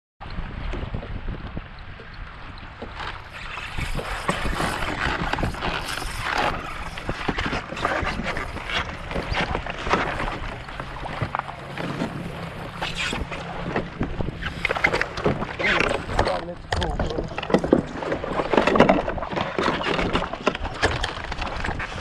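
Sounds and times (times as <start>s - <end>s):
knocks and splashes: 0.2s - 22.0s
water slapping against kayak: 0.2s - 22.0s
wind on microphone: 0.2s - 22.0s.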